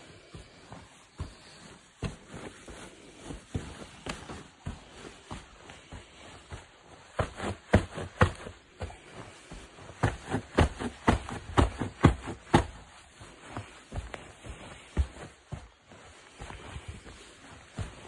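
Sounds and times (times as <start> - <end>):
feet trampling on mattress: 0.0 - 18.0.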